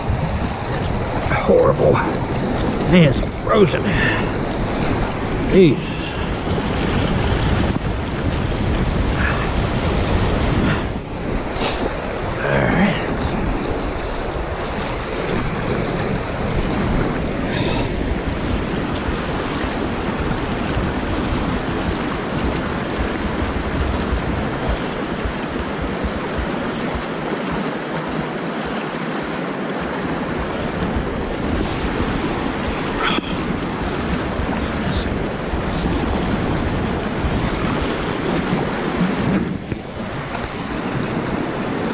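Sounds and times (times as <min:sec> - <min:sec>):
water rushing over spillway: 0:00.0 - 0:41.9
wind rumbling on microphone: 0:00.0 - 0:41.9.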